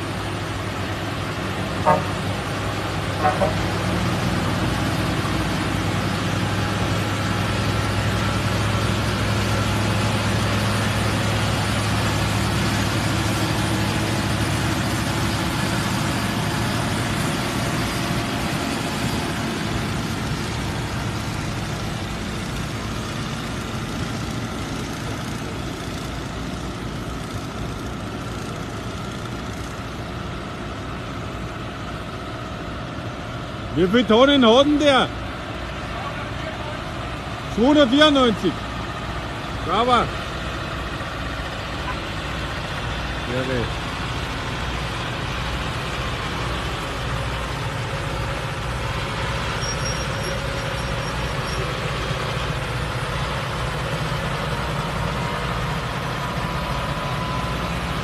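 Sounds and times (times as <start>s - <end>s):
trailer rolling noise: 0.0s - 58.0s
truck diesel engines droning: 0.0s - 58.0s.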